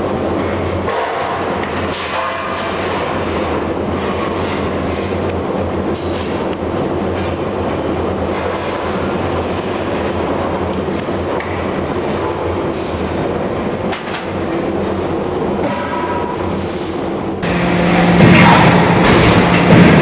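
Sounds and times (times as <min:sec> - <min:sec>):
loud machinery drone: 0:00.0 - 0:20.0
low hum: 0:00.0 - 0:20.0.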